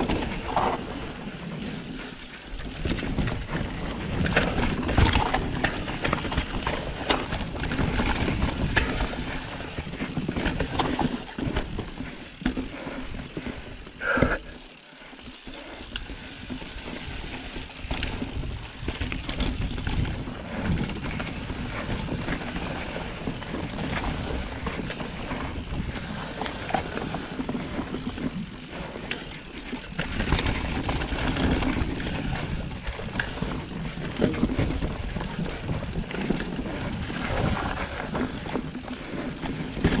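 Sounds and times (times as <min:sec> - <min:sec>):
bike rattles and knocks: 0:00.0 - 0:40.0
bike tyre noise: 0:00.0 - 0:40.0.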